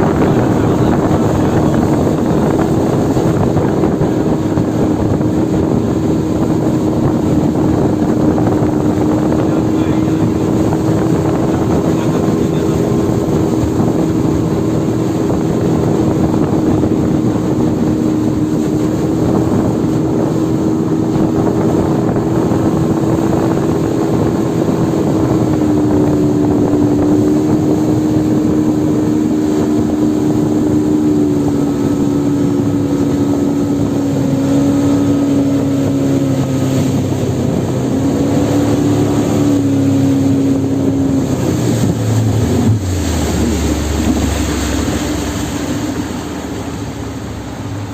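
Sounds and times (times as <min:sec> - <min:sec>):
small boat engine running: 0:00.0 - 0:47.9
wind on microphone: 0:00.0 - 0:47.9.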